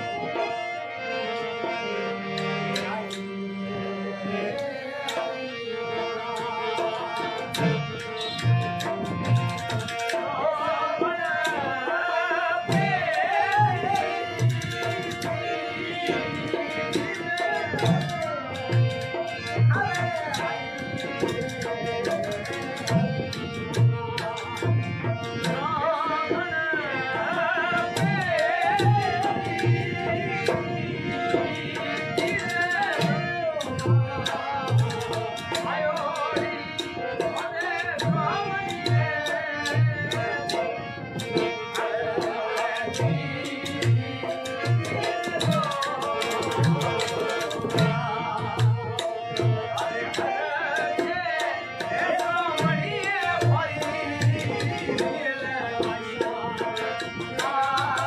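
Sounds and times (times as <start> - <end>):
harmonium: 0.0 - 58.0
men singing: 2.4 - 58.0.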